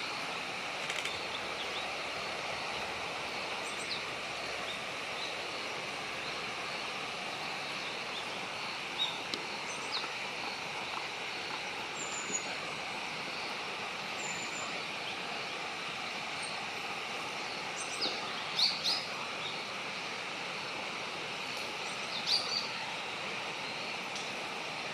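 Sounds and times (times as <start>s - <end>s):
outdoor background hiss: 0.0s - 24.9s.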